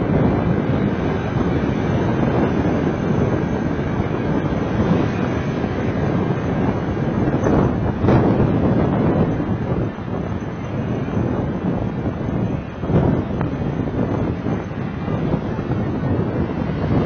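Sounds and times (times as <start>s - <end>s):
car road noise: 0.0s - 17.0s
wind rushing over microphone: 0.0s - 17.0s.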